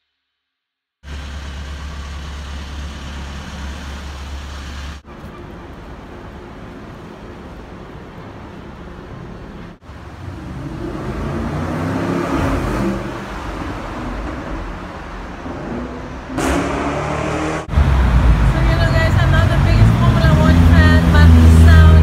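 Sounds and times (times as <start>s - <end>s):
car passing in a tunnel: 1.0s - 22.0s.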